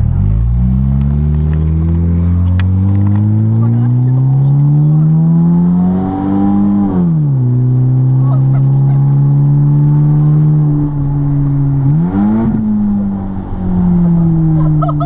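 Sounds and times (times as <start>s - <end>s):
car engine and exhaust drone: 0.0s - 15.0s.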